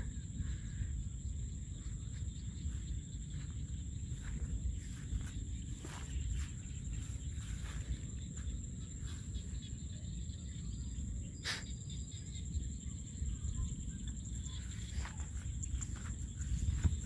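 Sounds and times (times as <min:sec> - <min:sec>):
wind rumble on microphone: 0:00.0 - 0:11.3, 0:11.9 - 0:17.0
high insect drone: 0:00.0 - 0:17.0.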